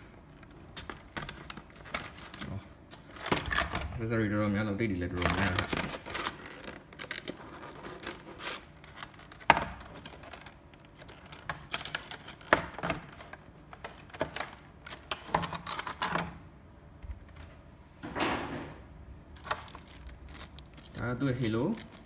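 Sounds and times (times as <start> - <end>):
plastic packaging crinkling: 0.0 - 16.2, 19.4 - 22.0.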